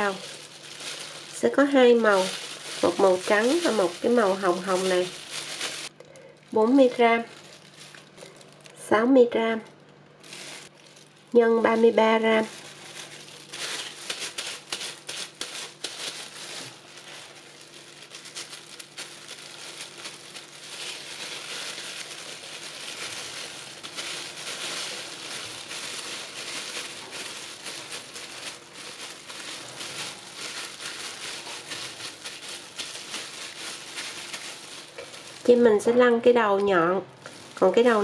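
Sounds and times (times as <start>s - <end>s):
plastic gloves crinkling: 0.0s - 9.0s, 10.1s - 38.0s.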